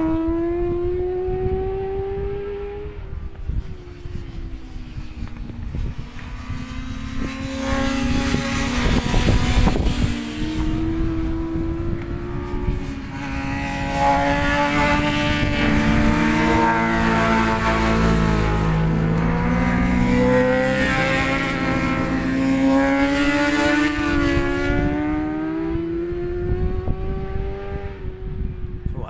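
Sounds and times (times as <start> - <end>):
racing motorcycles passing: 0.0 - 29.0
wind buffeting microphone: 0.0 - 29.0.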